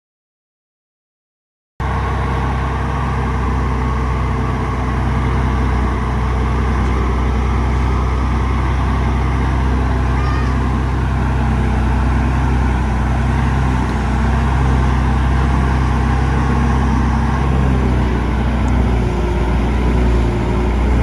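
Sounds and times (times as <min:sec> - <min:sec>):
heavy diesel engine running: 0:01.8 - 0:21.0.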